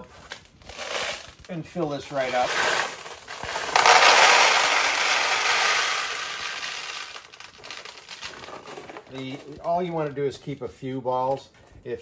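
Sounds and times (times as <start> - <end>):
steel balls pouring and rattling: 0.2 - 10.1.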